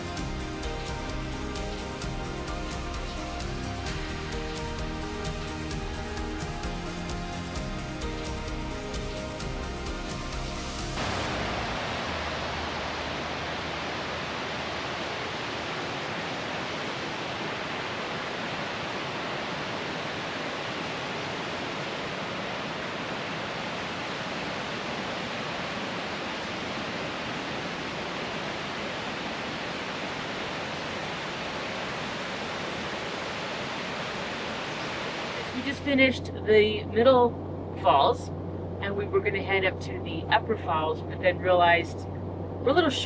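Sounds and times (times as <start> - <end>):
waterfall rushing: 0.0 - 36.2.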